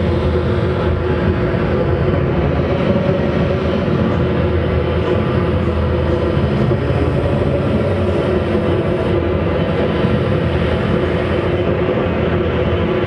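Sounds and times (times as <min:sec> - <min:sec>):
amplified band drone: 0:00.0 - 0:13.0.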